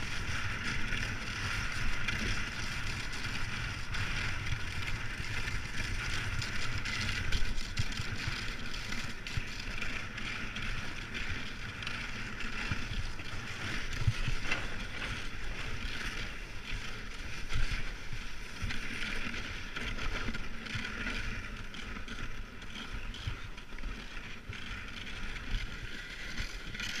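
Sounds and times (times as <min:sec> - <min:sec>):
board scraping over snow: 0:00.0 - 0:27.0.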